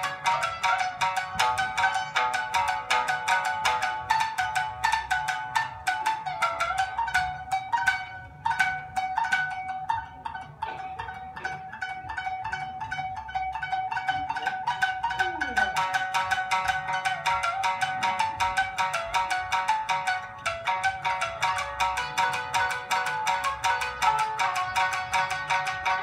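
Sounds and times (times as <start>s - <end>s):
shamisen playing: 0.0s - 26.0s.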